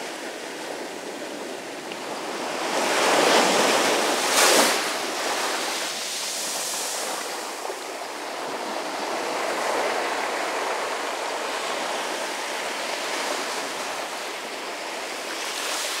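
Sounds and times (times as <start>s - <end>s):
surf washing on sand: 0.0s - 16.0s.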